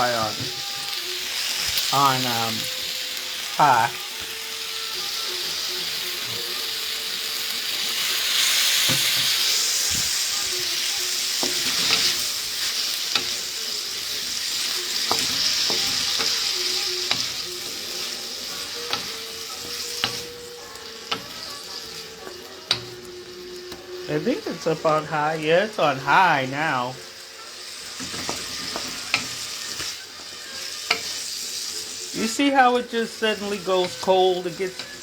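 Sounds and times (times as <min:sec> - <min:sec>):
chicken and vegetables sizzling: 0:00.0 - 0:35.0.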